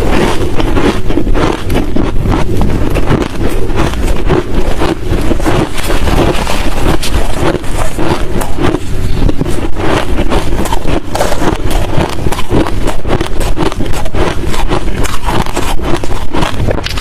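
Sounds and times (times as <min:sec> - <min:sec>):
chewing crushed ice: 0:00.0 - 0:17.0.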